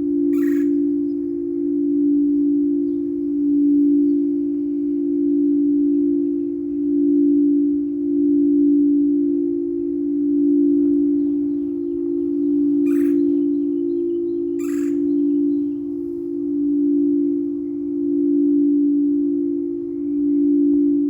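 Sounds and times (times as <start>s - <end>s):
singing bowl low tone: 0.0s - 21.0s.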